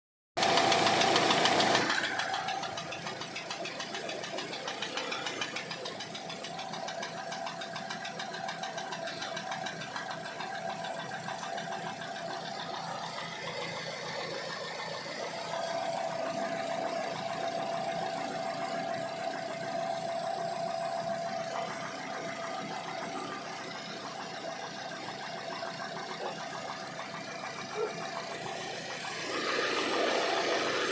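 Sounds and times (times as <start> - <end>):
car engine running: 0.4 - 30.9
fast regular engine knock: 0.4 - 30.9.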